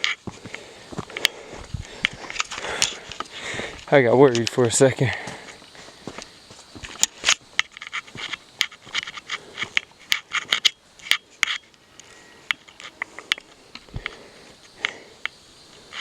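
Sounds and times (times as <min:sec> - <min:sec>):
footsteps on rocky trail: 0:00.0 - 0:10.7, 0:11.4 - 0:15.1.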